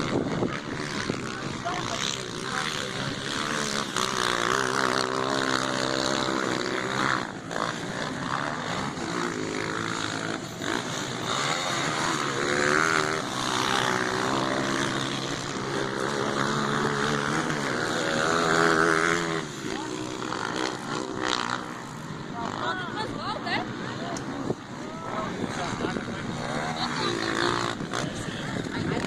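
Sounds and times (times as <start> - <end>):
dirt-bike engines revving: 0.0 - 29.0.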